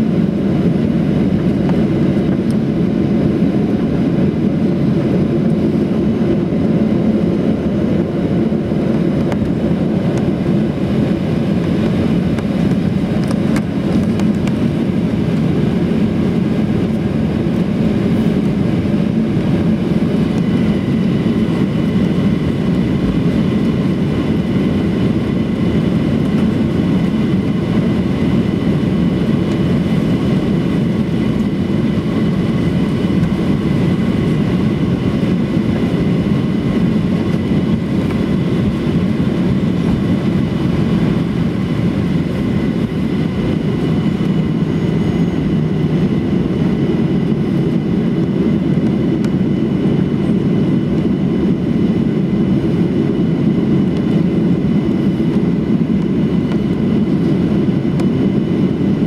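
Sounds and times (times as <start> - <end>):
low rumble of engines and wheels: 0.0 - 59.0.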